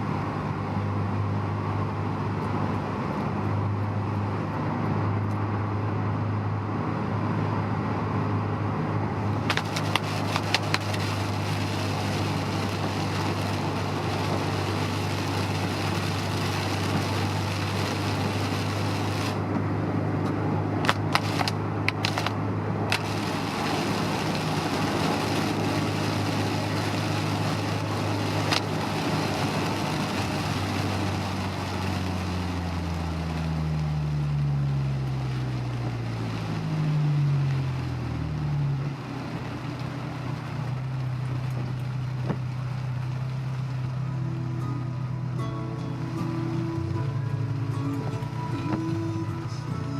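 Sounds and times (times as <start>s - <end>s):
car engine drone: 0.0s - 49.9s
tyre and road noise: 0.0s - 49.9s.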